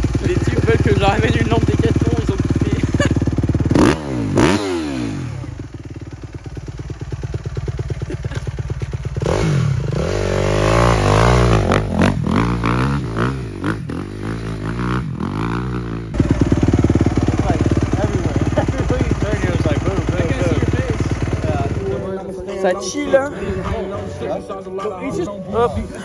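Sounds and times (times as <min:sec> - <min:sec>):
dirt bike engine revving and idling: 0:00.0 - 0:23.4.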